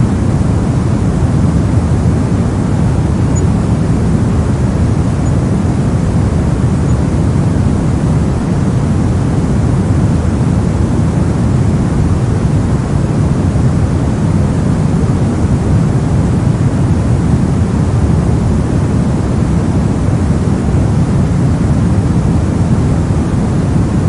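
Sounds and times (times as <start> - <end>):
brown noise: 0.0 - 24.0.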